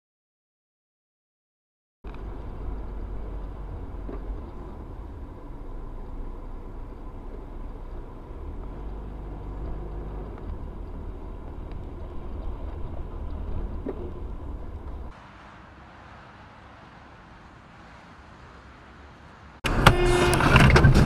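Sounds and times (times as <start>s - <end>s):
car engine and tyre rumble: 2.0s - 21.0s.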